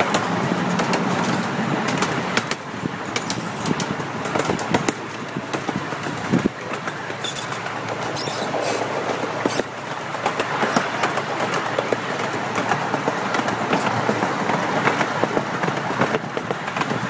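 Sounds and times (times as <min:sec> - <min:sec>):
ride train rumbling and rattling: 0:00.0 - 0:17.0
wheels clicking on rails: 0:00.0 - 0:17.0.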